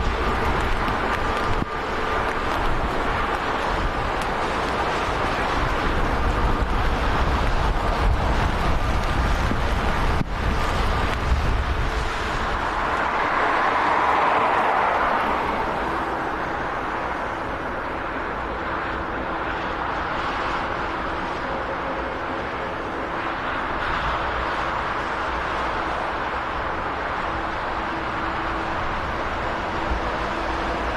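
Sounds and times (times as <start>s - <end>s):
turboprop engines droning: 0.0s - 30.9s
wind buffeting microphone: 0.0s - 30.9s.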